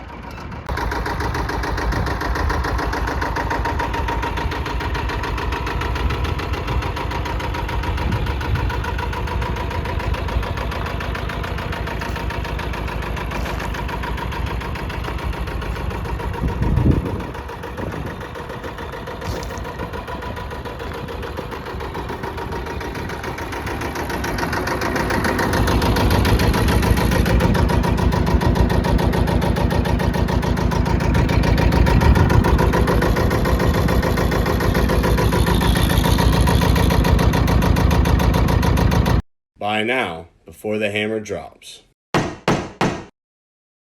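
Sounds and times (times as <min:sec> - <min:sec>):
tractor diesel engine running: 0:00.0 - 0:39.2.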